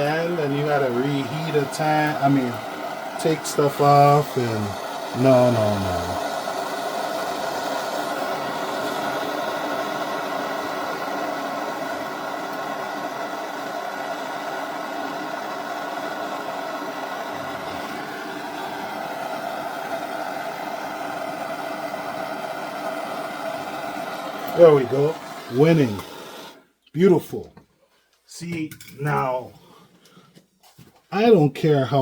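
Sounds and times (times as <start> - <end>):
torch flame rushing: 0.0 - 26.6.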